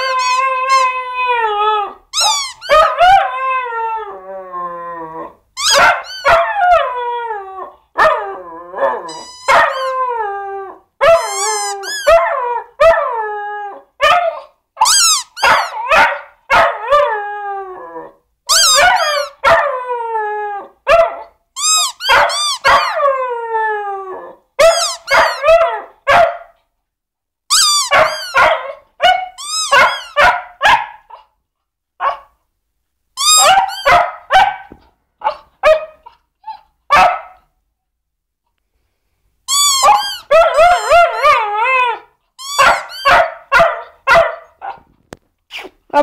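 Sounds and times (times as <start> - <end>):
dog barking and howling: 0.0 - 26.6, 27.6 - 31.3, 33.2 - 37.5, 39.6 - 44.9.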